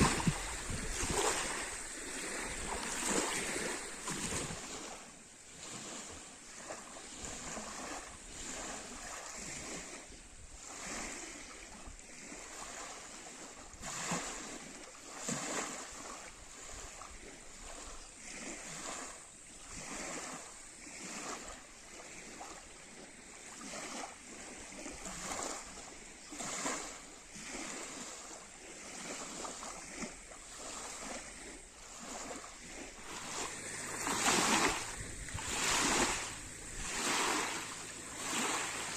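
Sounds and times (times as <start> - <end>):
lake waves lapping on shore: 0.0 - 38.9.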